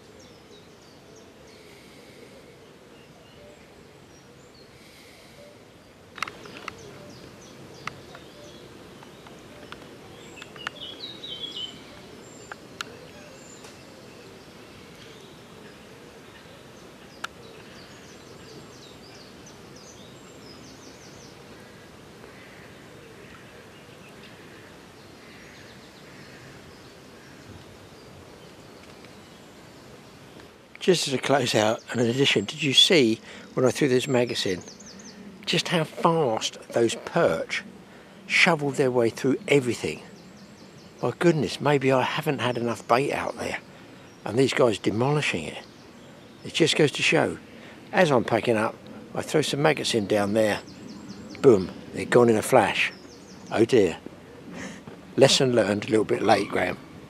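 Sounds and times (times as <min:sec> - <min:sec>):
outdoor background hiss: 0:00.0 - 0:57.0
small birds chirping: 0:00.0 - 0:57.0.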